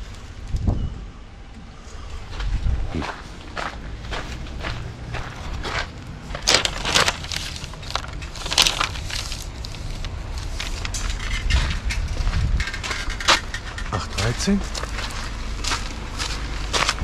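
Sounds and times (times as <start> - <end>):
low rumble: 0.0 - 17.0
footsteps crunching on gravel: 2.2 - 17.0.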